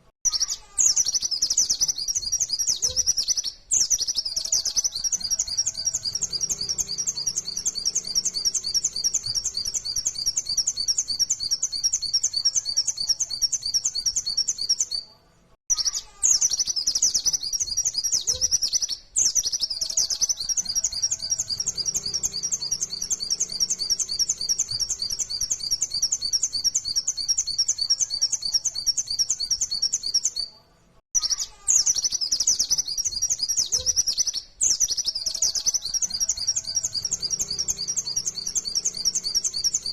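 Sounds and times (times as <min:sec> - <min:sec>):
bird chirping rapidly: 0:00.2 - 0:15.0, 0:15.7 - 0:30.5, 0:31.2 - 0:39.9.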